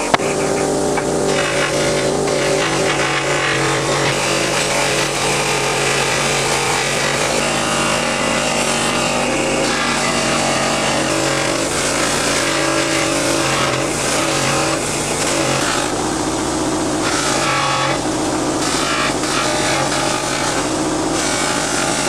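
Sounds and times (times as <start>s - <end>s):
metal grinding: 0.0s - 22.0s
power tool motor running: 0.0s - 22.0s.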